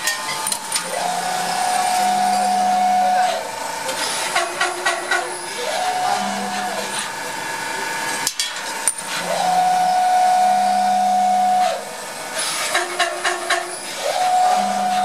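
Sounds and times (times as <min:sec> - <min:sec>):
milling machine motor whine: 0:00.0 - 0:15.0.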